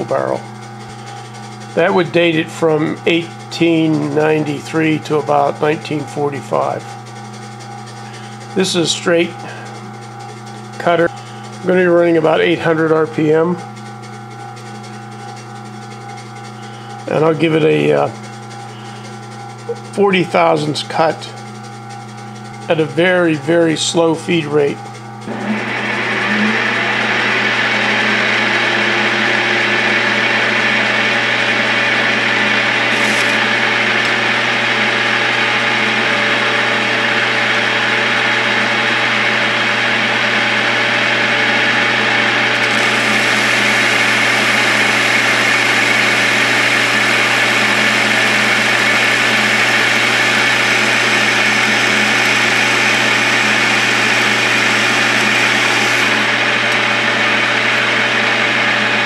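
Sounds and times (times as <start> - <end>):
lathe motor hum: 0.0 - 59.0
lathe tool cutting steel: 0.0 - 59.0.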